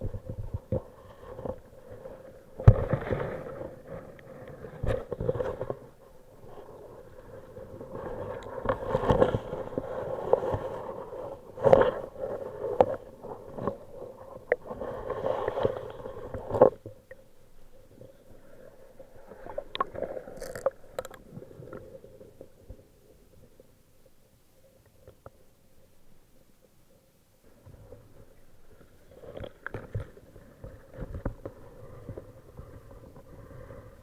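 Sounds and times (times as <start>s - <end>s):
muffled underwater water noise: 0.0s - 34.0s.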